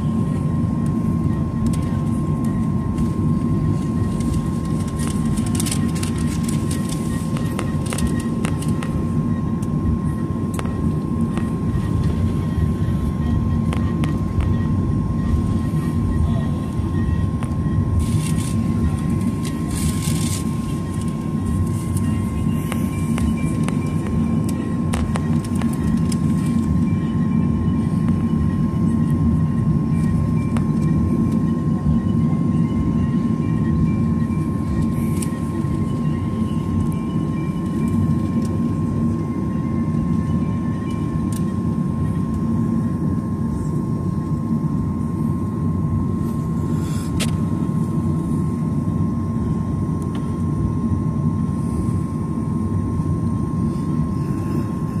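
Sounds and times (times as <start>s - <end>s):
aircraft cabin low rumble: 0.0s - 55.0s
thin steady whine: 0.0s - 55.0s.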